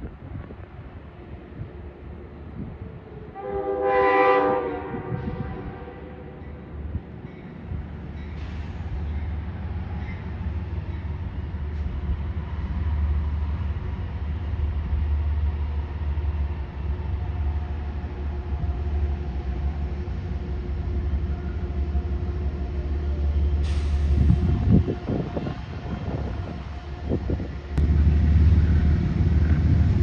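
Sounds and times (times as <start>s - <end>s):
train low rumble: 0.0s - 30.0s.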